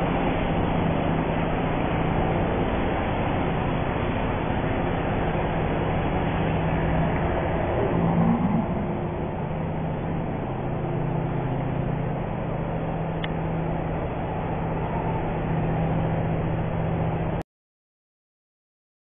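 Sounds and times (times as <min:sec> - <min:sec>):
traffic engine hum: 0:00.0 - 0:17.4.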